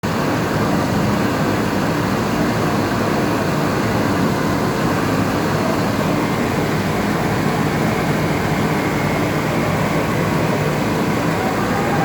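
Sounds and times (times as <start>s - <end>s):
heavy vehicle engine drone: 0.0s - 12.0s.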